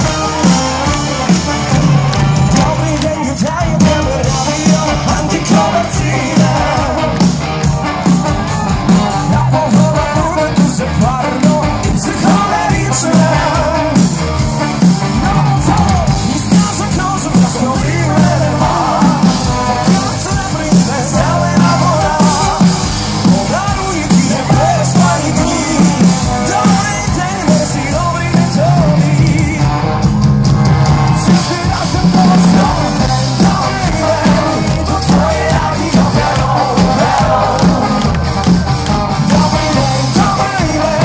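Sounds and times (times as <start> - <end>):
lead singer singing: 0.0 - 30.0, 30.9 - 41.0
band playing through loudspeakers: 0.0 - 41.0
bass: 0.0 - 41.0
brass: 0.0 - 41.0
steady drumbeat: 0.0 - 41.0.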